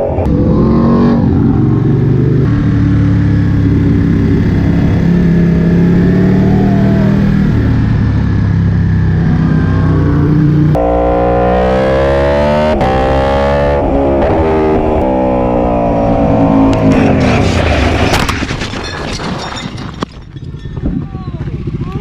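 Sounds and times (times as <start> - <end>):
motorcycle engine accelerating: 0.0 - 18.6, 20.3 - 22.0.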